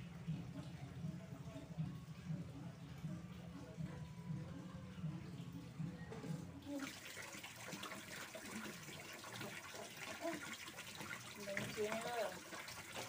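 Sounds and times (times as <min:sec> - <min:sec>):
tap water running into basin: 0:00.0 - 0:13.0.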